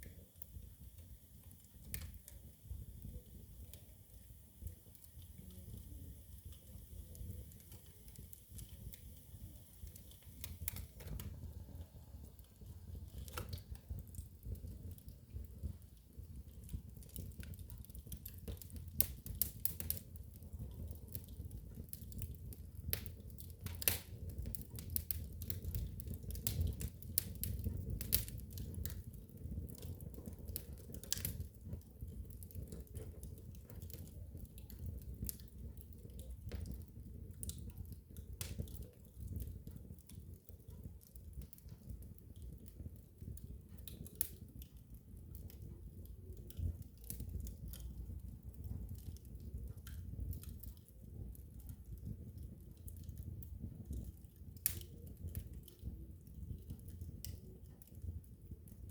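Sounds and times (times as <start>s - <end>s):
fire crackling and popping: 0.0s - 58.9s
fire flames rumbling: 0.0s - 58.9s.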